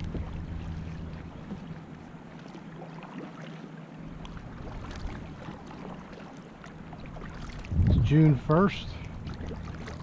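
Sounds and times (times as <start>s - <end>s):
low steady hum: 0.0s - 10.0s
water splashing and lapping: 0.0s - 10.0s.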